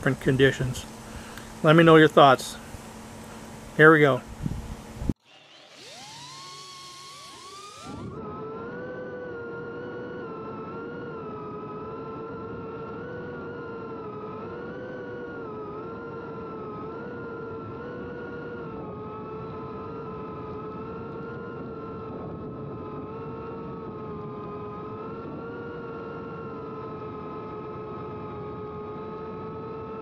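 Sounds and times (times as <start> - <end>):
drone propellers whining: 0.0 - 30.0.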